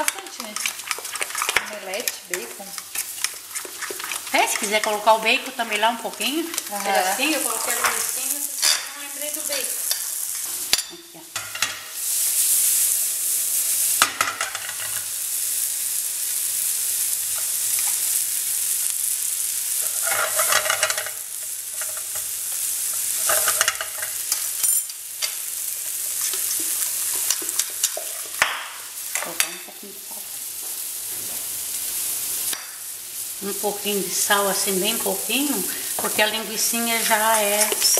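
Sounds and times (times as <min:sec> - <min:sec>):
sausage sizzling in a frying pan: 0:00.0 - 0:37.9.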